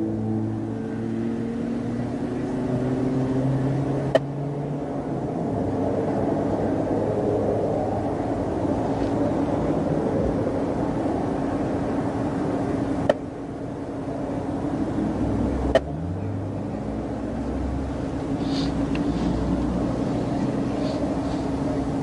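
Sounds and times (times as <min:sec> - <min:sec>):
constant low hum: 0:00.0 - 0:22.0
highway traffic roar: 0:00.0 - 0:22.0
vehicle low rumble: 0:00.0 - 0:22.0.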